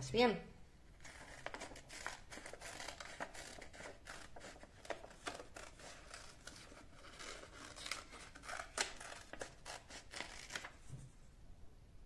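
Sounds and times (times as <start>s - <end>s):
scissors cutting paper: 1.0s - 10.7s
paper rustling: 1.0s - 11.2s.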